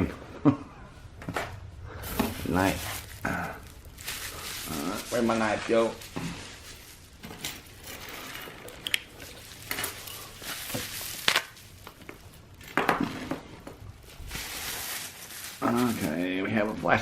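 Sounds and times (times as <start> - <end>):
rustling in a box: 1.9 - 17.0.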